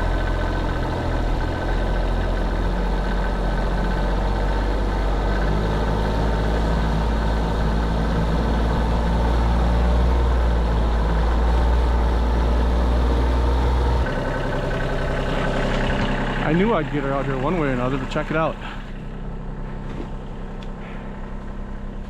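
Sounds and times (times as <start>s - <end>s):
diesel engine droning under load: 0.0s - 22.0s.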